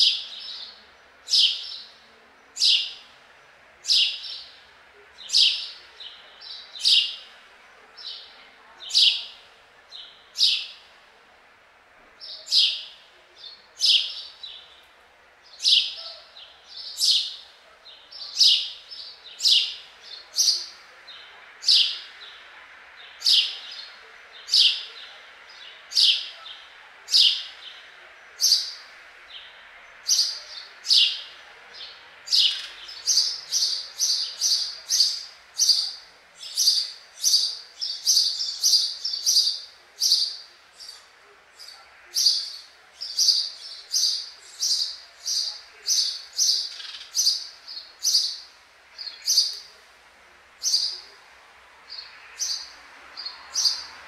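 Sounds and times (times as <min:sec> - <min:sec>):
sparrow chirping: 0:00.0 - 0:03.1, 0:03.8 - 0:10.9, 0:12.2 - 0:14.8, 0:15.4 - 0:49.8, 0:50.6 - 0:51.2, 0:51.9 - 0:54.0.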